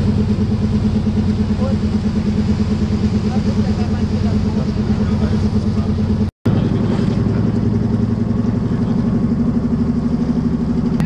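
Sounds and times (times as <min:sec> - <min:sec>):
boat engine pulsing: 0:00.0 - 0:11.0.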